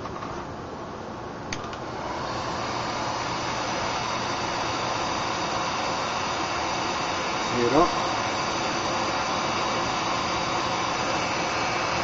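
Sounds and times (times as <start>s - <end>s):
heat gun blowing: 1.5s - 12.0s.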